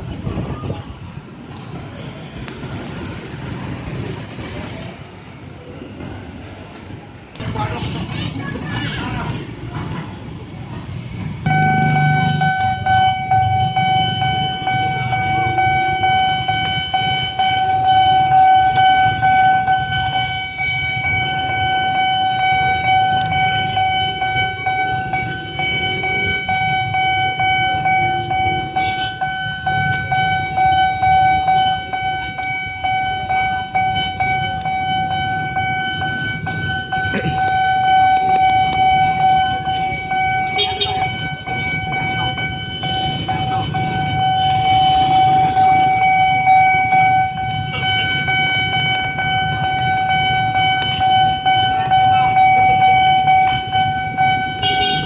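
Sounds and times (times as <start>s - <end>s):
low traffic rumble: 0.0s - 55.0s
level crossing warning siren: 9.3s - 55.0s.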